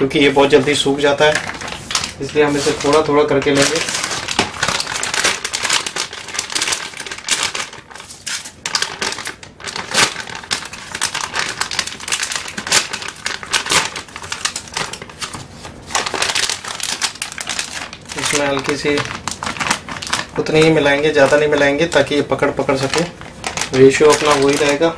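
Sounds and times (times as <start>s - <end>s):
plastic bag crinkling: 0.0s - 24.9s.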